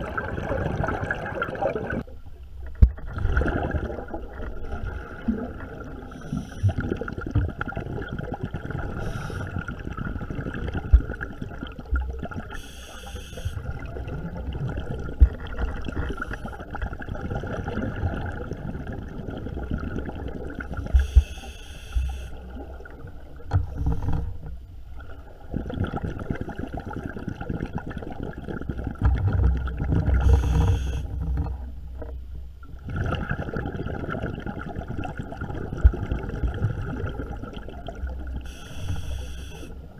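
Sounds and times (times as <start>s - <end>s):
low underwater rumble and hiss: 0.0s - 39.9s
scuba exhaust bubbles: 0.0s - 39.9s.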